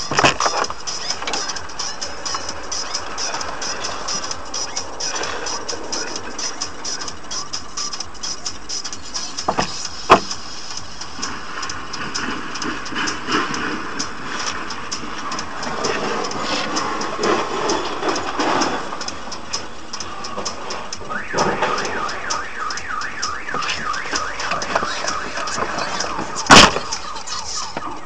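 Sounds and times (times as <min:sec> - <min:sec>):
car alarm warbling: 0:00.0 - 0:28.0
street and engine noise: 0:00.0 - 0:28.0.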